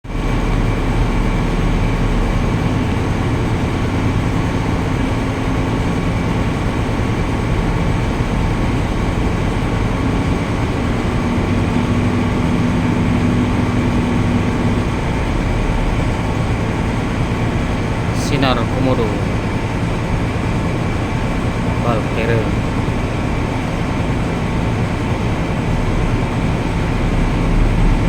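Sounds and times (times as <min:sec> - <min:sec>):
ship engine droning: 0:00.0 - 0:28.0
higher hum: 0:00.1 - 0:25.7.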